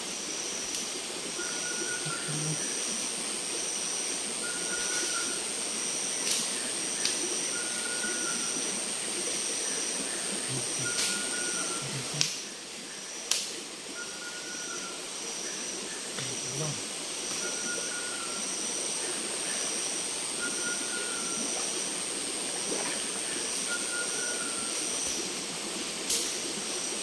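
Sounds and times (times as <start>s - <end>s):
short repeating insect call: 0.0s - 25.4s
insect high buzz: 0.0s - 27.0s
steady hiss: 0.0s - 27.0s
insect pulsing chirring: 0.4s - 25.3s.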